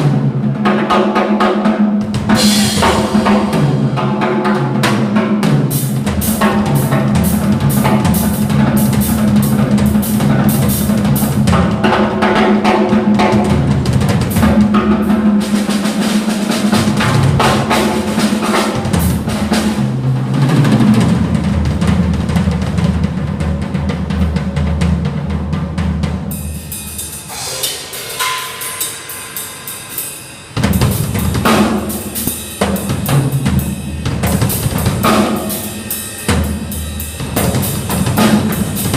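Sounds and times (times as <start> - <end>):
backing music: 0.0 - 24.3, 25.1 - 38.9
drum kit playing a beat: 0.0 - 38.9.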